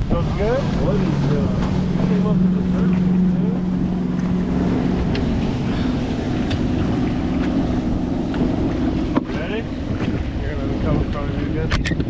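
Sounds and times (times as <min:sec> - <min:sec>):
boat engine rumble: 0:00.0 - 0:12.0
low hum: 0:00.0 - 0:12.0
wind on microphone: 0:00.0 - 0:12.0.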